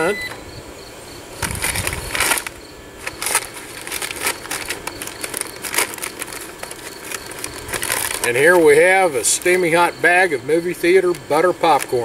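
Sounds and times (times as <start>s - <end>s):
paper bag rustling and crackling: 1.4s - 9.9s, 10.5s - 12.0s.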